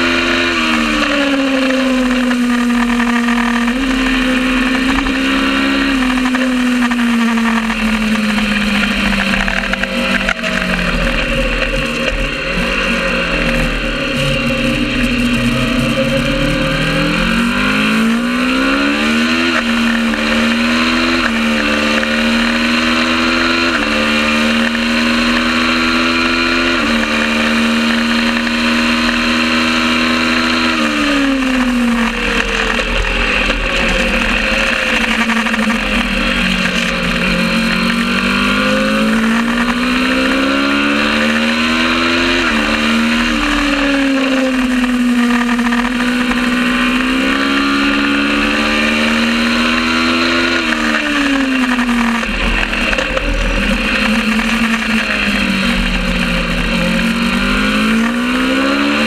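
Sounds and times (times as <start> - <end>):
motorcycle engine revving through gears: 0.0 - 59.0.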